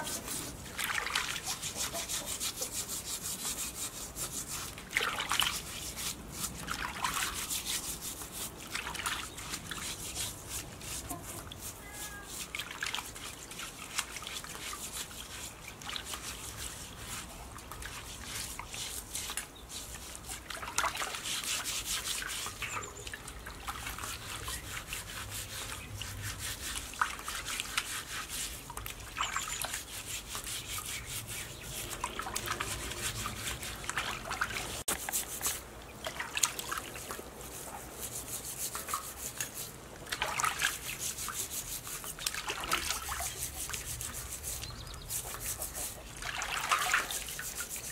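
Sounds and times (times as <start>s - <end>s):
hands scrubbing skin: 0.0s - 22.8s, 23.7s - 47.9s
water sloshing in a basin: 0.0s - 47.9s.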